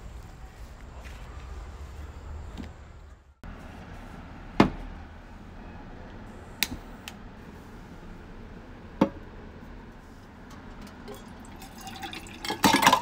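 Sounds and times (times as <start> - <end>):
low outdoor rumble: 0.0 - 12.6.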